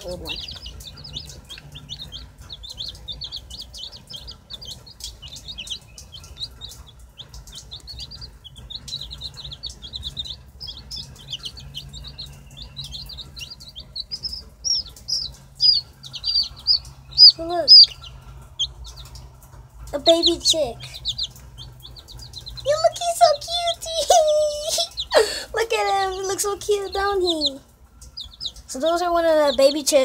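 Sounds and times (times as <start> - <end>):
baby chicks peeping: 0.0 - 30.0.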